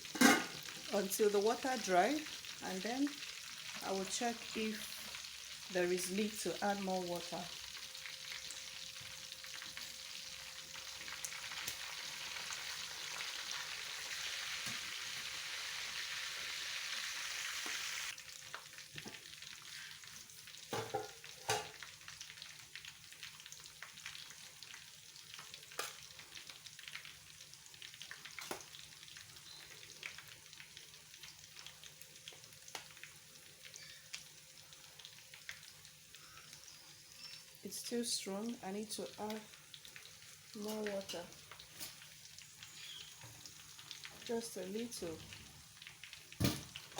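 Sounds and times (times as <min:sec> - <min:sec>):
sizzling hiss in a pot: 0:00.0 - 0:46.9
quiet crackle: 0:07.2 - 0:16.4, 0:17.3 - 0:46.9.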